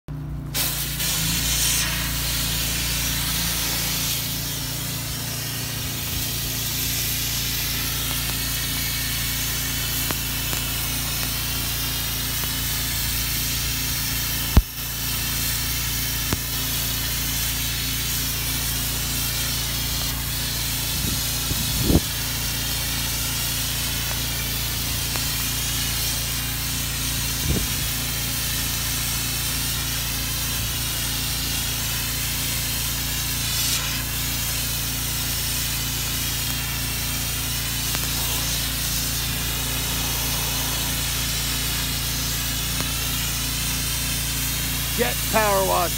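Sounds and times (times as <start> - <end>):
pressure washer hum: 0.1 - 45.9
water jet hissing on brick: 0.4 - 45.9.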